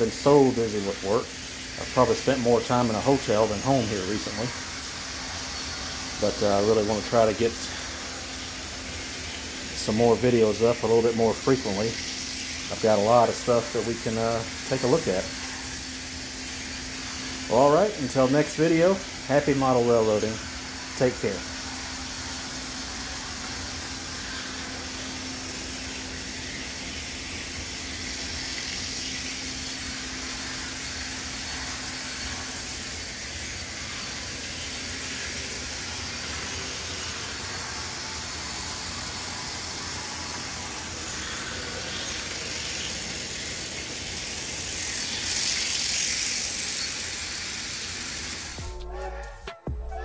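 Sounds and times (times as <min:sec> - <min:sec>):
model train running hum: 0:00.0 - 0:48.6.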